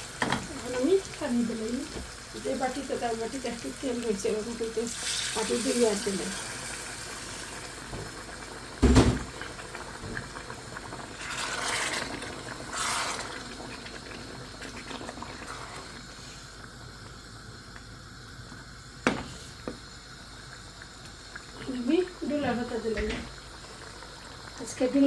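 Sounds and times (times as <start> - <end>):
water pouring into a pot: 0.0 - 19.0, 19.8 - 25.0
low simmer: 0.0 - 25.0.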